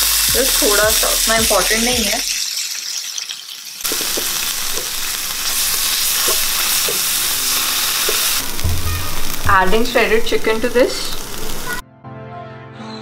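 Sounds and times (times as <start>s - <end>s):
onions sizzling in a frying pan: 0.0s - 11.8s.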